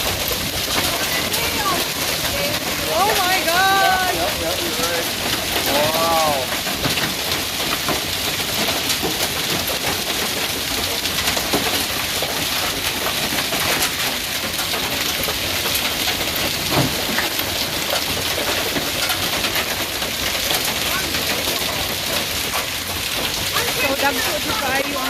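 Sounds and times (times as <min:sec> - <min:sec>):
hail clattering on hard surfaces: 0:00.0 - 0:25.0.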